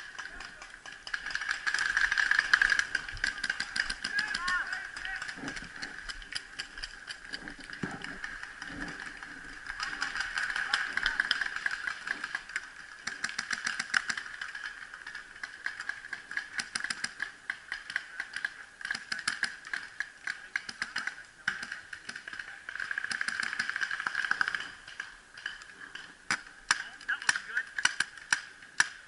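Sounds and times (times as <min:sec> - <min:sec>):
paintball guns firing: 0:00.0 - 0:29.0.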